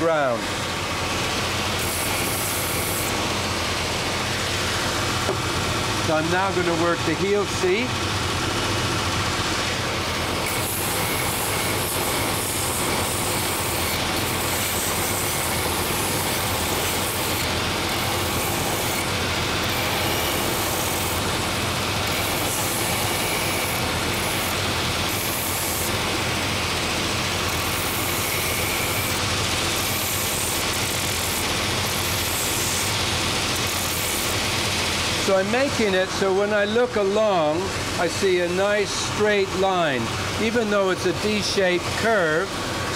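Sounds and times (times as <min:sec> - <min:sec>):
belt sander motor drone: 0:00.5 - 0:35.6.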